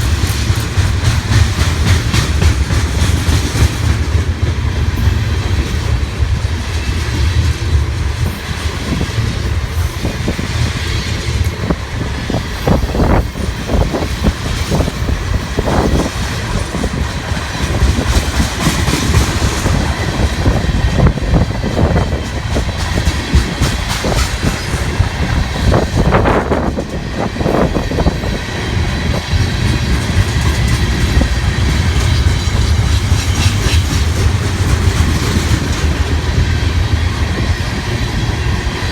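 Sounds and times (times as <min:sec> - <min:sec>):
wheels clicking over rail joints: 0:00.0 - 0:37.9
freight train rumbling past: 0:00.0 - 0:38.9.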